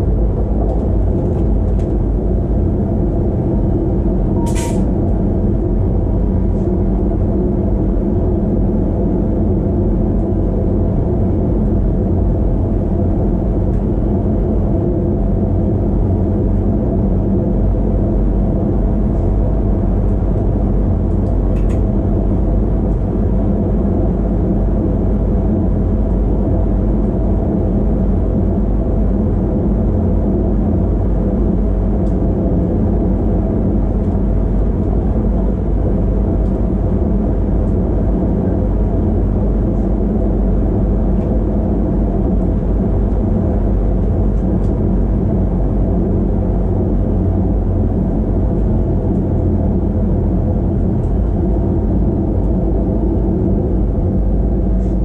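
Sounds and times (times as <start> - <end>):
steady electric hum: 0.0 - 55.0
train rumbling along track: 0.0 - 55.0.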